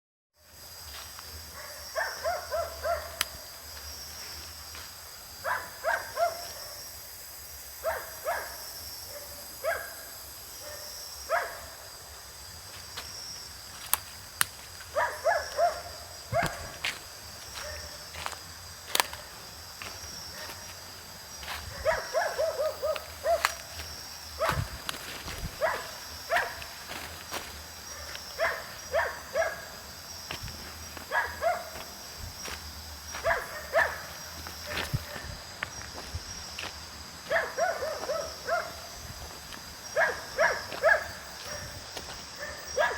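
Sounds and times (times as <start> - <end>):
insect chorus trilling: 0.4 - 42.9.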